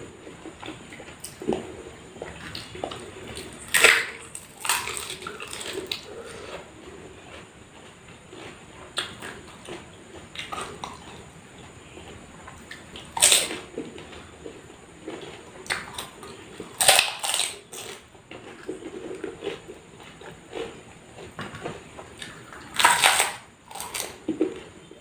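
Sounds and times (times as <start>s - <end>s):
wet chewing and slurping: 0.1s - 24.9s
crunching: 0.1s - 25.0s.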